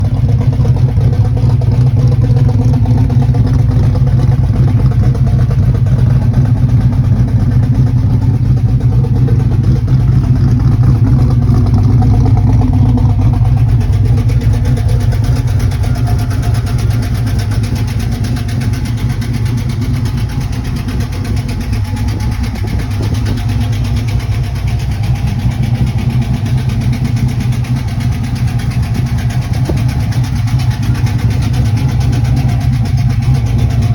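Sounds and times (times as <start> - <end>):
car engine idling with ticking: 0.0 - 33.9.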